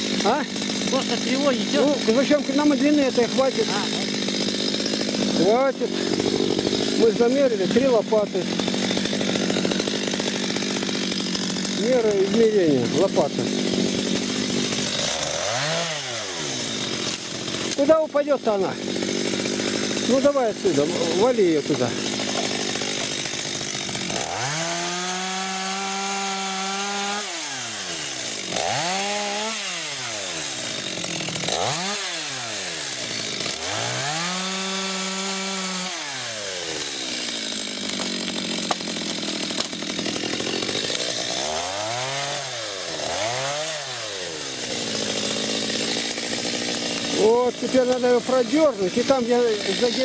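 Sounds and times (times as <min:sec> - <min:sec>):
chainsaw revving: 0:00.0 - 0:50.0.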